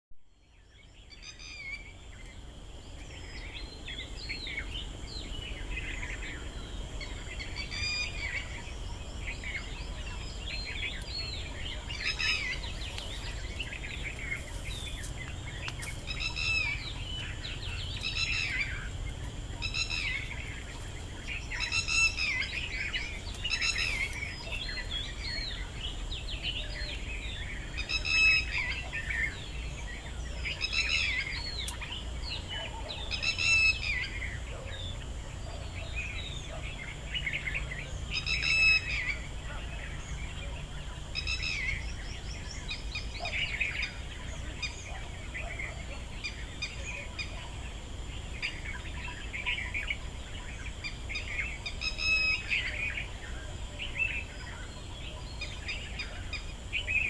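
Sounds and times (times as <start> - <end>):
birds chirping: 0.3 - 57.0.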